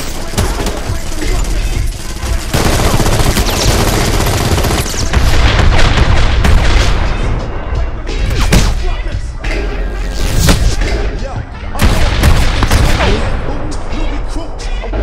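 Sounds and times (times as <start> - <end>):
loud film music: 0.0 - 15.0.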